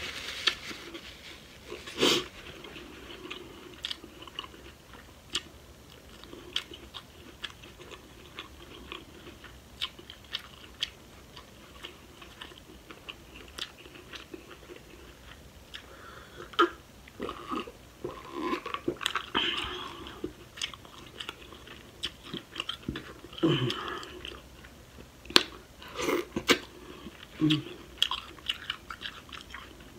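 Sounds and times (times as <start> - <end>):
close chewing of food: 0.0 - 29.9.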